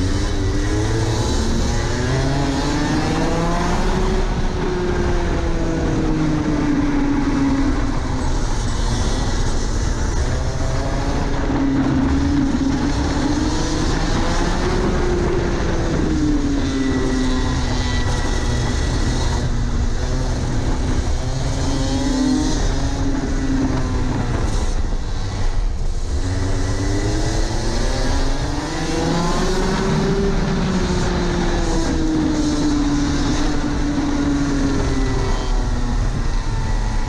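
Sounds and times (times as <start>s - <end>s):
kart engine running hard: 0.0s - 37.0s.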